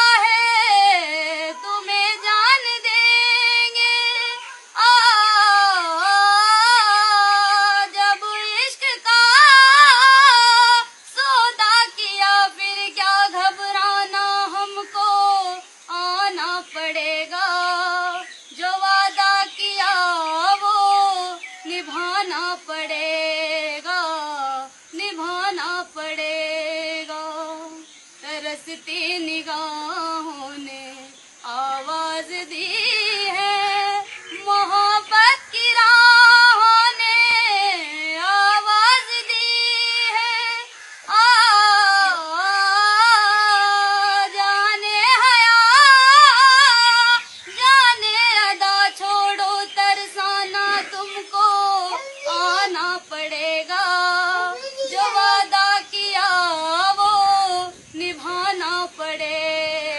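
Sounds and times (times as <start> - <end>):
woman singing unaccompanied: 0.0 - 59.9.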